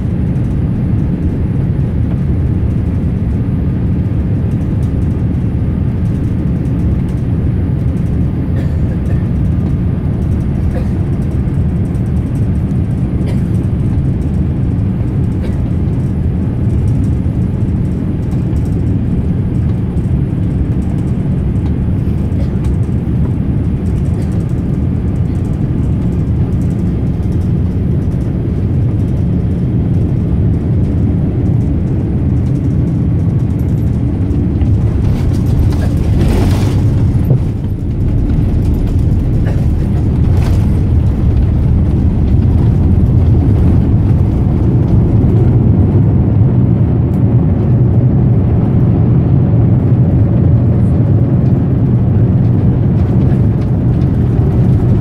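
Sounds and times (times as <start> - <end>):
jet engine cabin rumble: 0.0 - 55.0.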